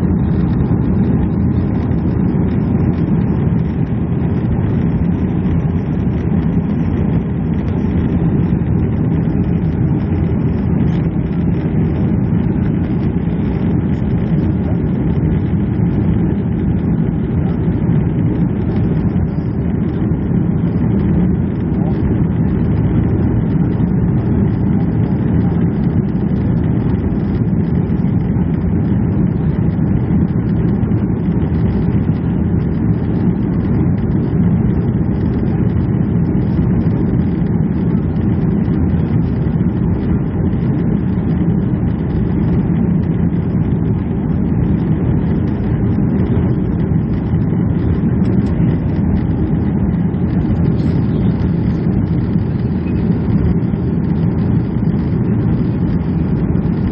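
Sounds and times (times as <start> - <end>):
airliner cabin engine rumble: 0.0 - 56.9.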